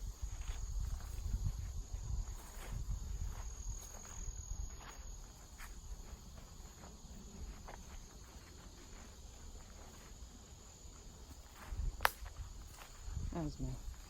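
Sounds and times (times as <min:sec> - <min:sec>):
crickets droning: 0:00.0 - 0:14.0.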